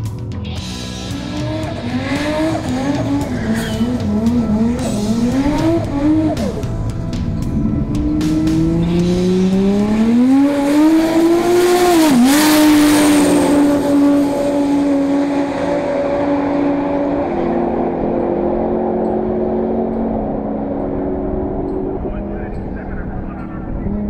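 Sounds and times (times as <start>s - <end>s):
drag cars accelerating hard: 0.8s - 24.0s.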